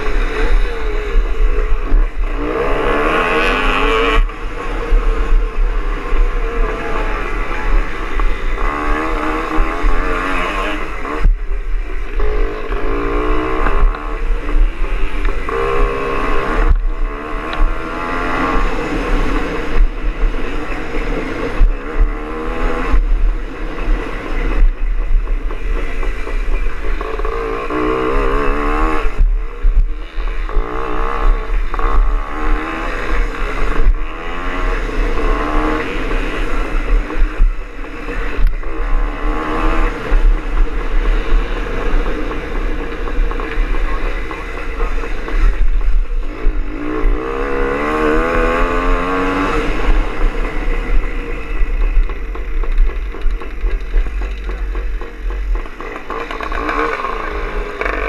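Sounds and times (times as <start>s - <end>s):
steady low rumble: 0.0s - 58.0s
two-stroke motorcycle revving: 0.0s - 58.0s.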